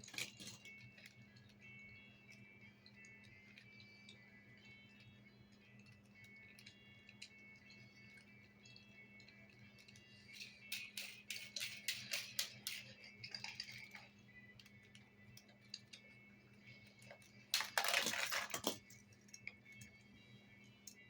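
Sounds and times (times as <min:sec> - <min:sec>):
toy parts clicking and clacking: 0:00.0 - 0:20.1.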